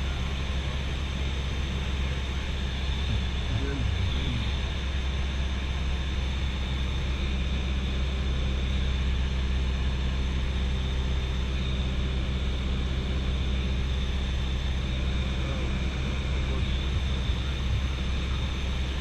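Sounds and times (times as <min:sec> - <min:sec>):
aircraft engine and propeller drone: 0:00.0 - 0:19.0.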